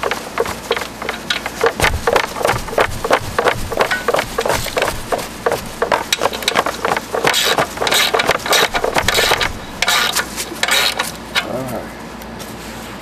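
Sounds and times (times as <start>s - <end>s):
wrench clicking and scraping on metal: 0.0s - 11.5s.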